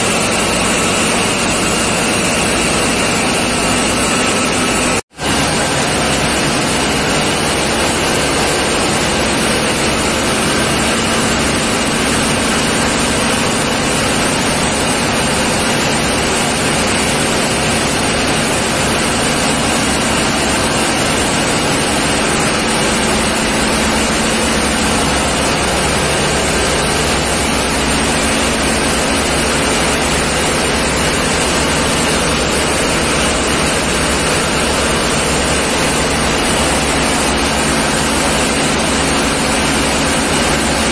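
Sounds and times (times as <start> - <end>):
diesel engine room din: 0.0 - 40.9.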